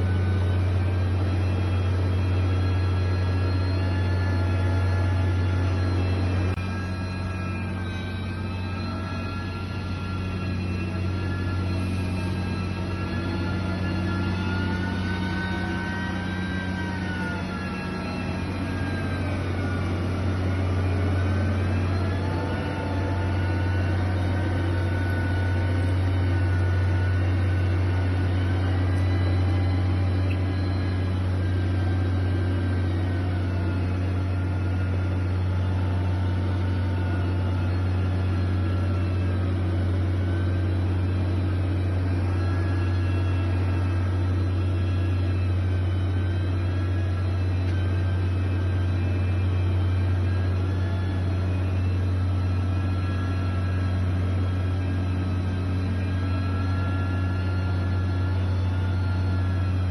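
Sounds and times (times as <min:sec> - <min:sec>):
diesel machinery engine hum: 0:00.0 - 0:59.9
wavering mechanical whine: 0:00.0 - 0:59.9.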